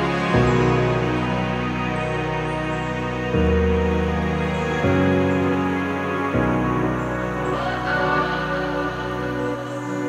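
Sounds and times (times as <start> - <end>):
slow song with sustained chords: 0.0 - 10.0.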